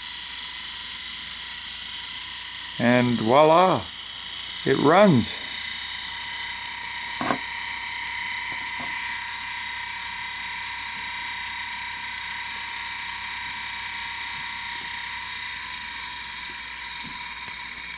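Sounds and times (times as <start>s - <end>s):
motor brush hiss: 0.0s - 17.9s
small electric motor whirring: 0.0s - 17.9s.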